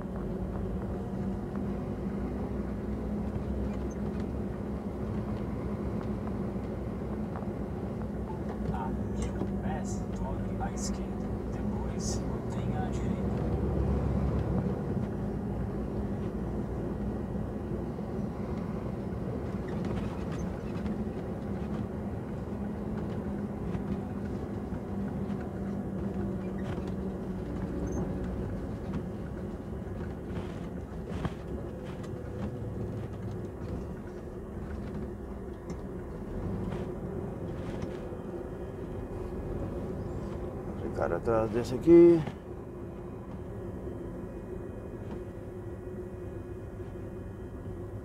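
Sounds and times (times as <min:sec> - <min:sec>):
lorry engine drone: 0:00.0 - 0:48.0.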